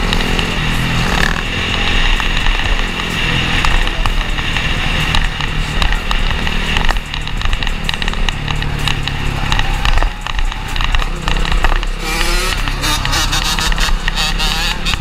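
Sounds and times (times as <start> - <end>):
dirt bike engine running: 0.0 - 15.0
small clicks and buffets: 1.1 - 14.2.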